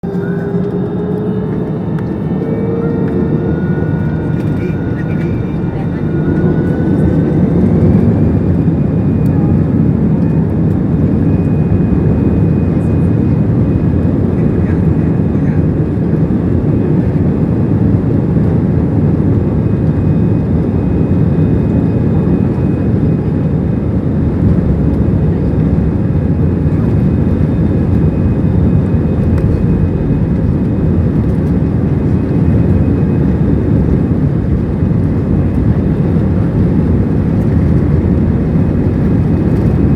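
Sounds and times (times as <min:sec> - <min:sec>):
jet engines at takeoff thrust: 0:00.0 - 0:39.9.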